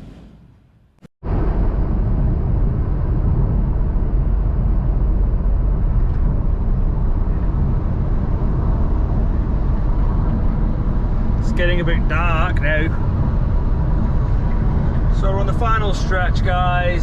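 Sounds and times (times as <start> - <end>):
van engine and road rumble: 0.0 - 17.0.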